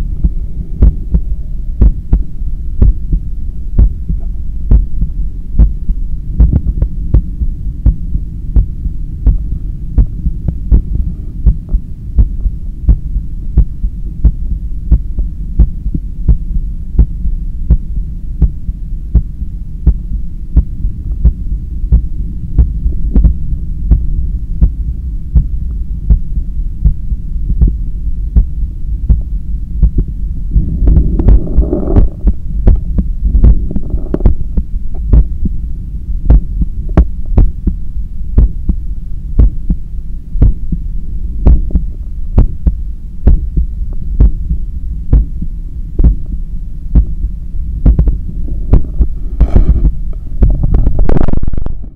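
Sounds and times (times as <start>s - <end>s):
heart beating: 0.0s - 35.6s, 36.2s - 38.8s, 39.4s - 39.8s, 40.4s - 40.8s, 41.4s - 51.9s
low rumble of blood flow: 0.0s - 51.9s.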